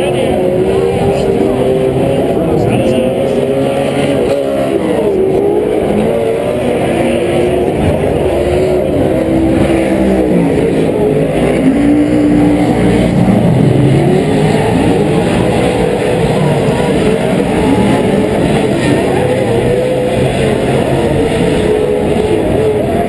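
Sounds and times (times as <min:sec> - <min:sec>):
race truck engines revving: 0:00.0 - 0:23.0.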